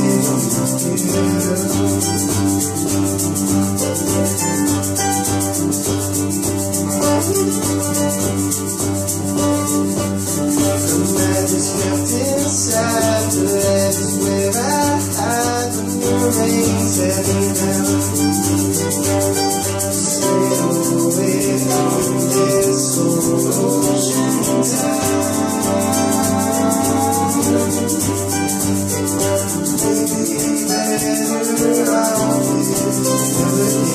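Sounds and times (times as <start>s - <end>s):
fast rattling rhythm: 0.0s - 33.9s
strummed acoustic guitars: 0.0s - 33.9s.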